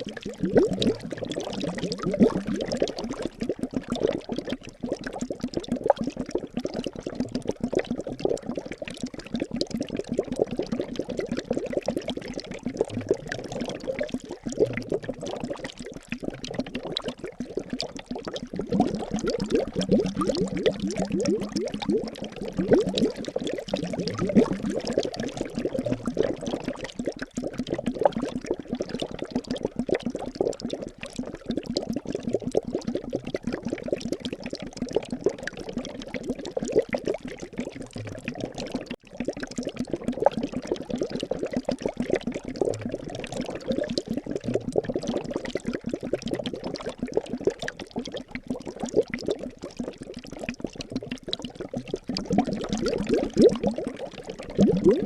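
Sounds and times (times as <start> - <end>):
liquid bubbling: 0.0 - 55.0.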